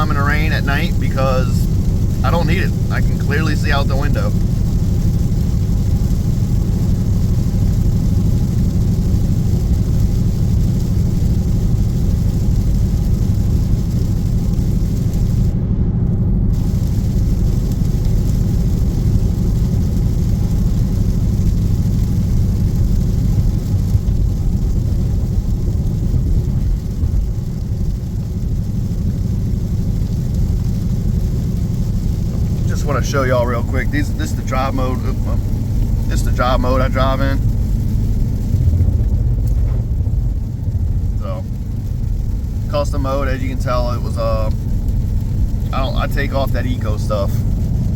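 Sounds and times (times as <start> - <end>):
tyres hissing on wet pavement: 0.0 - 15.6, 16.5 - 47.9
car cabin road drone: 0.0 - 47.9.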